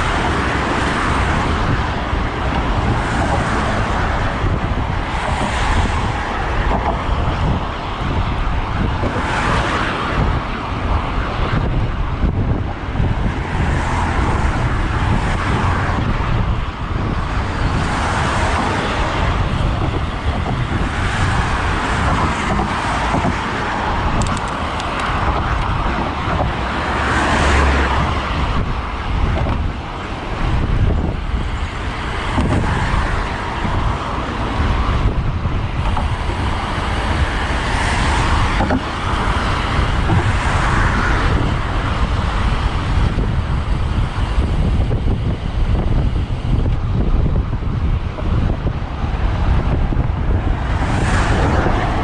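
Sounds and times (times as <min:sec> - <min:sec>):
cars passing by: 0:00.0 - 0:52.0
wind rumble on microphone: 0:00.0 - 0:52.0.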